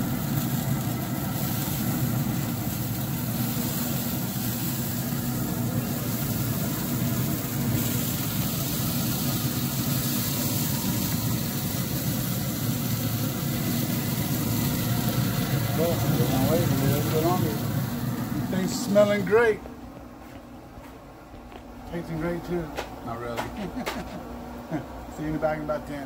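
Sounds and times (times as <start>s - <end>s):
grill fan humming: 0.0s - 26.0s.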